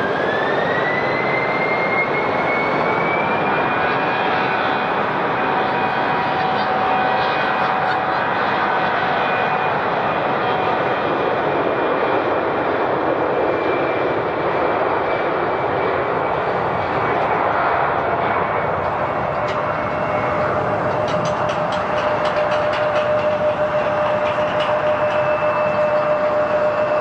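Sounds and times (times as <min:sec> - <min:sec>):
jet engines running: 0:00.0 - 0:27.0.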